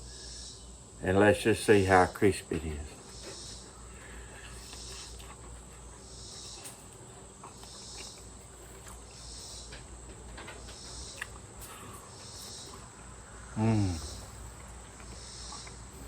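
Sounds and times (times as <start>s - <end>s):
insects chirping: 0.0s - 16.0s
crispy food being chewed: 3.0s - 16.0s.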